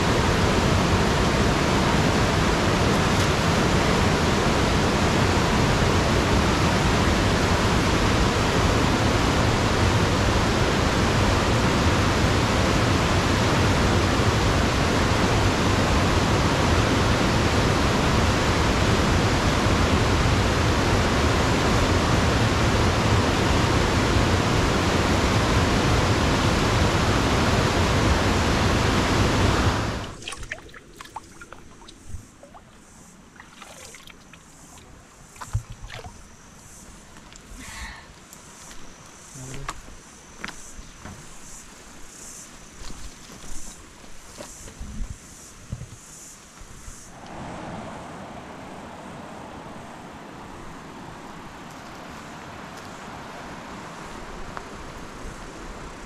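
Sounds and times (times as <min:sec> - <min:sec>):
river water rushing: 0:00.0 - 0:36.4, 0:47.1 - 0:56.0.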